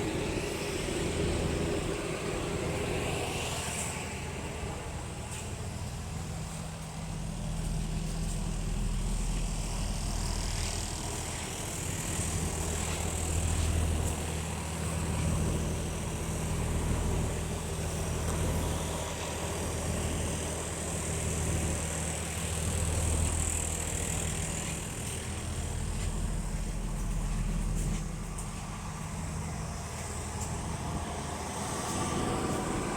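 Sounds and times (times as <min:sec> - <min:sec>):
diesel bus engine humming: 0:00.0 - 0:32.9.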